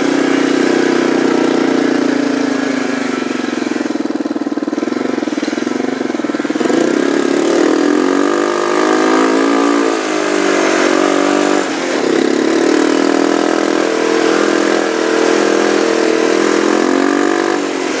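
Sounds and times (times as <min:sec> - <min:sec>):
snowmobile engine running hard: 0:00.0 - 0:18.0.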